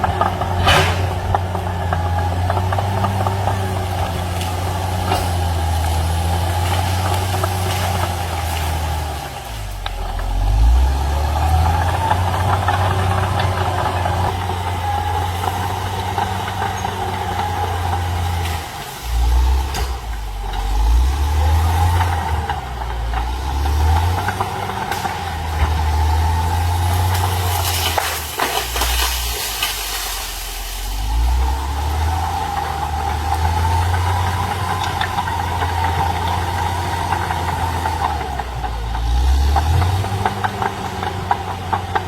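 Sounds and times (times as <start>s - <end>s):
bulldozer diesel engine: 0.0s - 42.0s
sharp cracks clattering: 0.0s - 42.0s.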